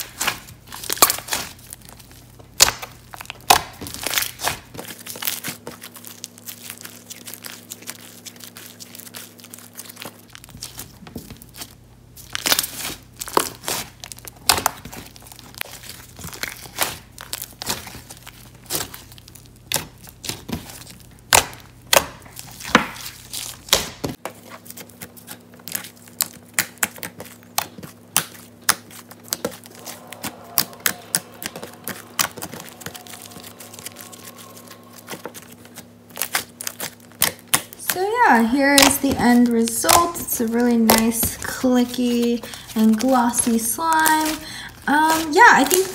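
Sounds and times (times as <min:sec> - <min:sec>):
sticky slime squishing: 0:00.0 - 0:45.9.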